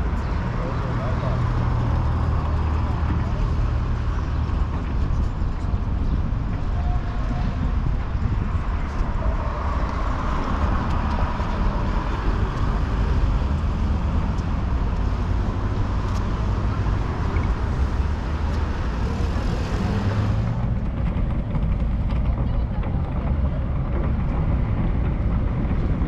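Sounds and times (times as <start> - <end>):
road vehicle rumble and hiss: 0.0 - 26.0.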